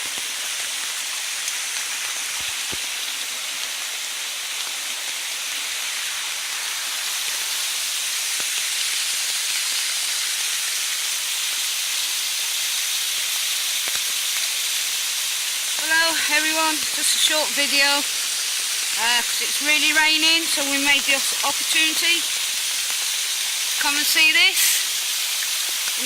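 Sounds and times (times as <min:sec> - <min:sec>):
heavy rain: 0:00.0 - 0:26.0
running water: 0:00.0 - 0:26.0.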